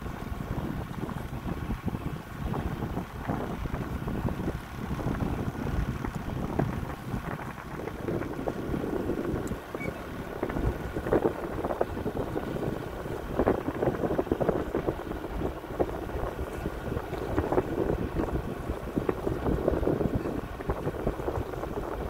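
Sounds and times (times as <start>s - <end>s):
water against hull: 0.0s - 22.0s
wind buffeting microphone: 0.0s - 22.0s.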